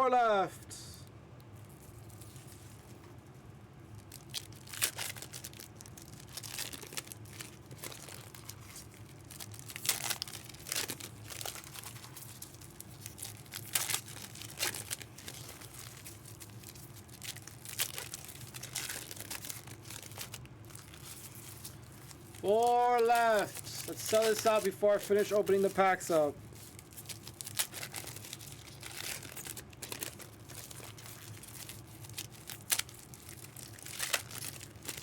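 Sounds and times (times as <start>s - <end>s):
foil wrappers crinkling and tearing: 1.5s - 35.0s.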